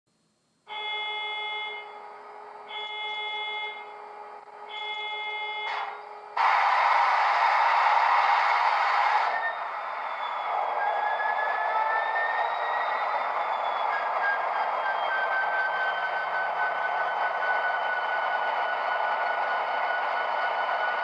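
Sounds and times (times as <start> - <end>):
diesel locomotive engine running: 1.0 - 21.0.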